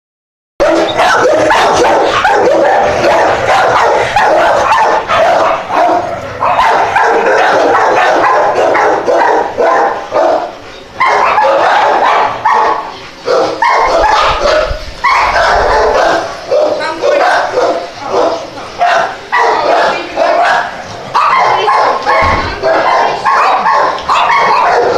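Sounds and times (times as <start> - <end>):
small dogs barking: 0.6 - 24.9.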